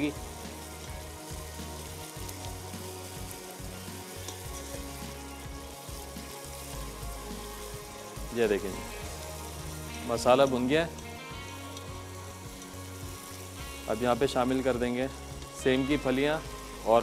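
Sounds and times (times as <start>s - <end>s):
spices frying in oil: 0.0s - 17.0s.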